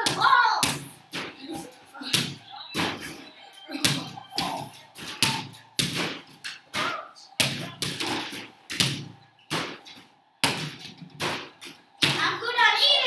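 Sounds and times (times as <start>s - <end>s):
balls thudding on backboard and rim: 0.0s - 3.2s, 3.8s - 12.4s.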